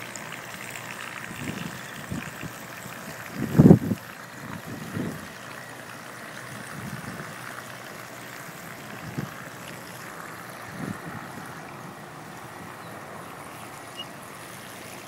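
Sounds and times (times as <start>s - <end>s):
model boat electric motor whine: 0.0s - 15.0s.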